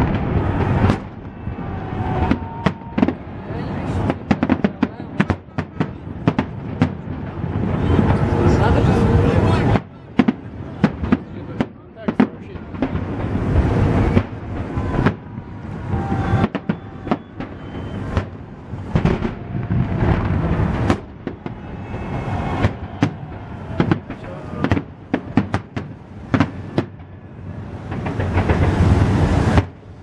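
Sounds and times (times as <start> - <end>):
fireworks bangs and cracks: 0.0 - 30.0.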